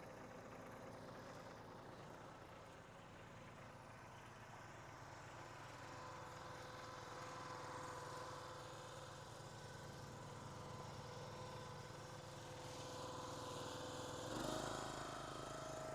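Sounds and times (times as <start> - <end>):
log splitter engine running: 0.0 - 15.9.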